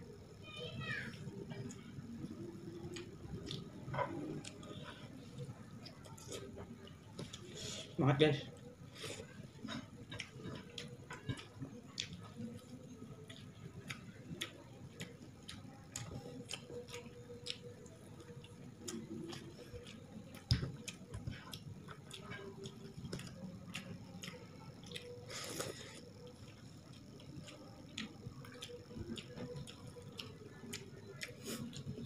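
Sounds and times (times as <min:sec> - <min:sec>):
faint steady hum: 0:00.0 - 0:32.0
person chewing with mouth clicks: 0:01.5 - 0:07.9, 0:08.6 - 0:32.0.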